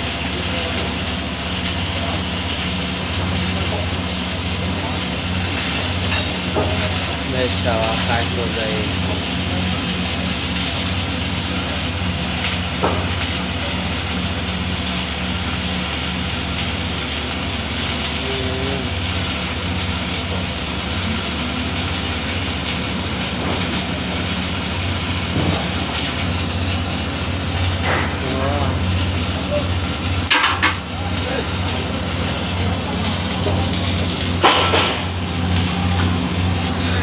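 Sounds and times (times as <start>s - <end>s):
welding arc crackling hiss: 0.0s - 37.0s
welding machine hum: 0.0s - 37.0s.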